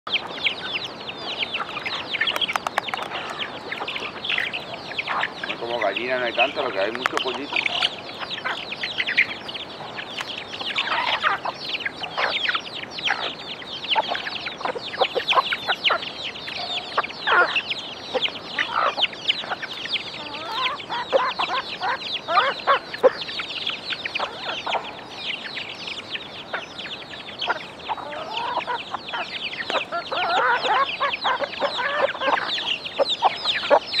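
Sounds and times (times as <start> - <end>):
chickens clucking: 0.1 - 34.0
chicks peeping: 0.1 - 34.0.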